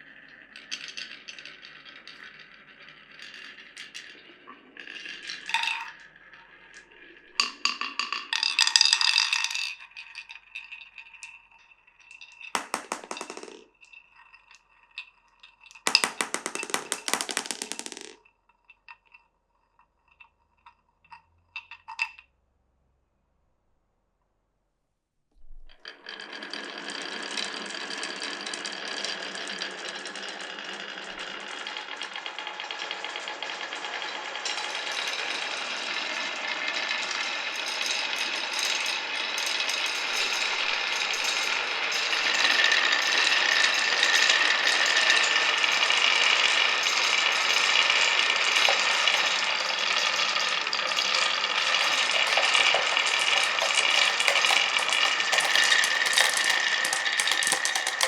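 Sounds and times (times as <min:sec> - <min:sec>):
marbles rattling down wooden run: 0:00.1 - 0:14.5, 0:15.7 - 0:18.2, 0:25.9 - 0:58.0.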